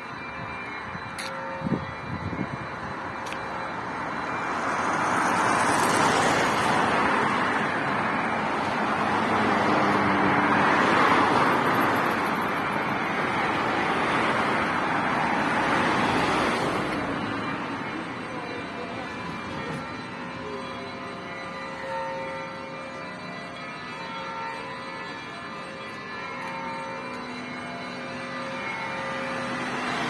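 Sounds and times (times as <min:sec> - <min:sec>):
passing cars: 0:00.0 - 0:30.0.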